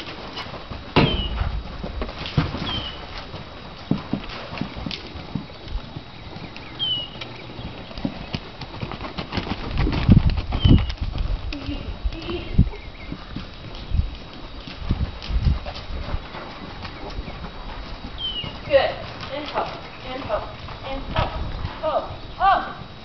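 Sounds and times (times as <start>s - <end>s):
horse hoofbeats on soft ground: 0.0s - 23.0s.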